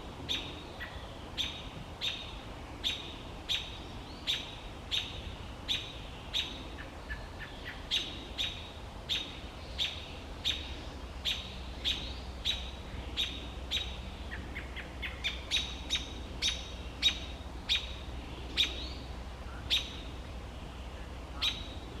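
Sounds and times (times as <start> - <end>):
robin chirping: 0.3 - 20.1, 21.4 - 21.9.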